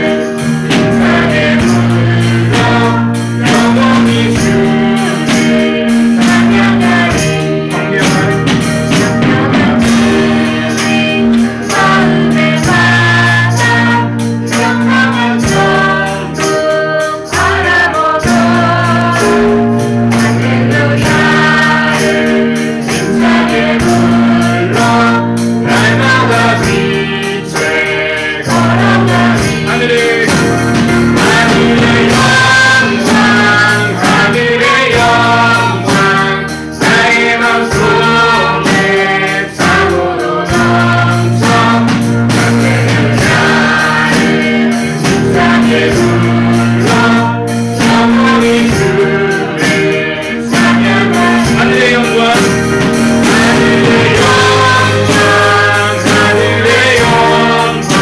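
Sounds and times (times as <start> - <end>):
acoustic guitar: 0.0 - 58.0
drums: 0.0 - 58.0
electric keyboard: 0.0 - 58.0
female and male voices singing: 0.0 - 58.0.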